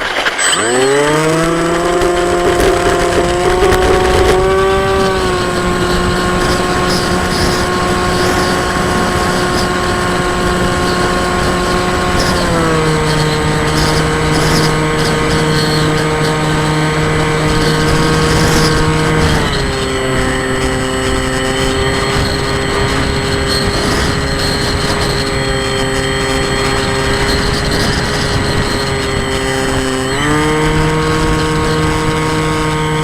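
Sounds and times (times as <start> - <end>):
model aircraft motor and propeller: 0.0 - 33.0.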